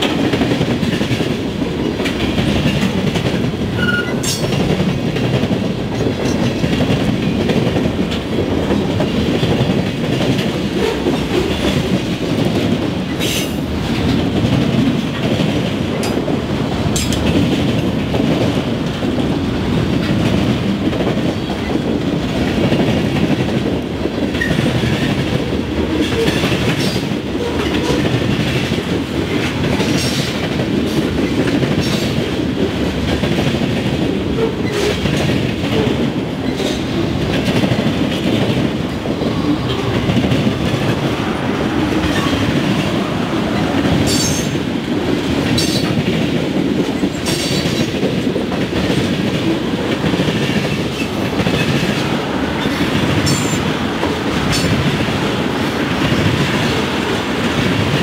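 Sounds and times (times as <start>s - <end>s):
train wheels rumbling on rails: 0.0s - 58.0s
wheels clickety-clack over joints: 0.0s - 58.0s.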